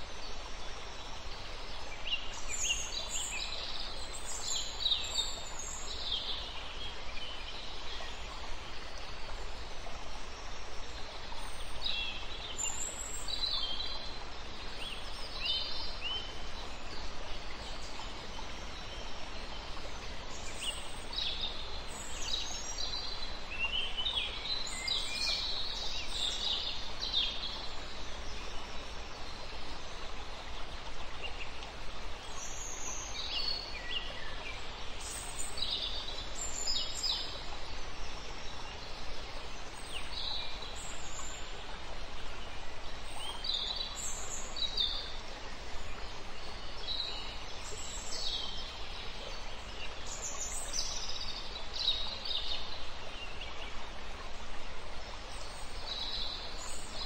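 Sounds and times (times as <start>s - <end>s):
outdoor ambience hiss: 0.0s - 57.0s.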